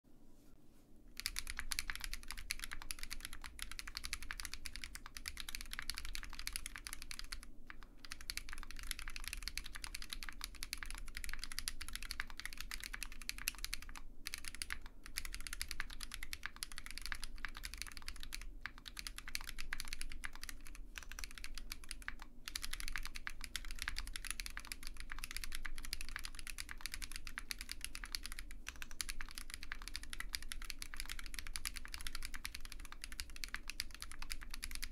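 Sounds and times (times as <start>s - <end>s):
mechanical keyboard typing: 1.2s - 34.9s.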